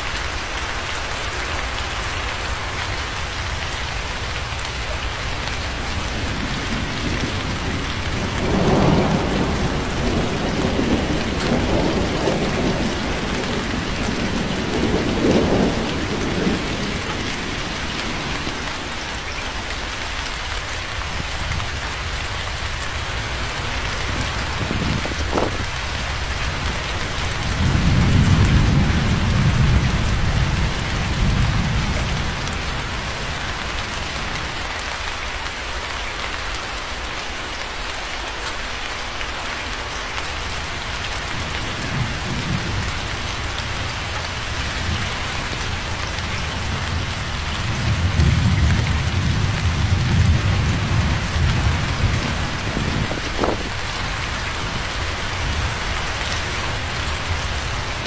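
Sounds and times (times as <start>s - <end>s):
steady rain falling: 0.0s - 58.0s
low rolling thunder: 3.3s - 19.1s, 21.0s - 34.7s, 40.4s - 58.0s.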